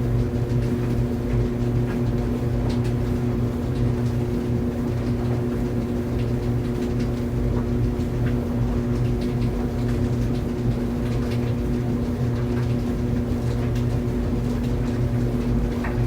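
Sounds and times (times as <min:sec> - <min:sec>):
tumble dryer motor hum: 0:00.0 - 0:16.0.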